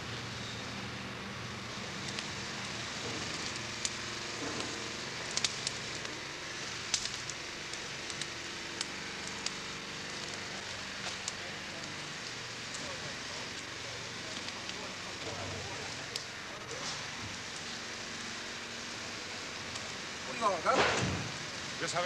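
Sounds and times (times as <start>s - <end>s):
bonfire crackling: 0.0s - 22.0s
sharp fire pops: 1.9s - 17.8s, 19.3s - 21.6s.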